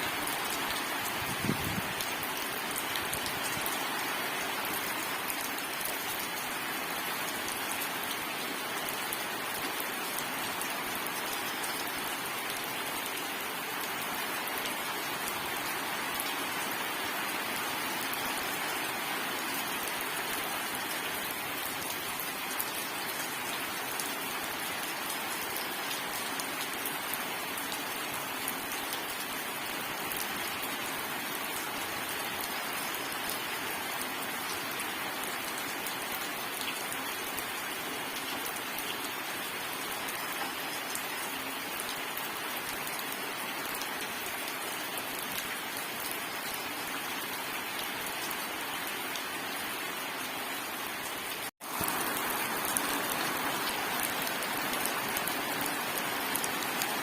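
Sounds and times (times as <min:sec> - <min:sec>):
heavy rain pattering: 0:00.0 - 0:49.6, 0:51.0 - 0:57.0.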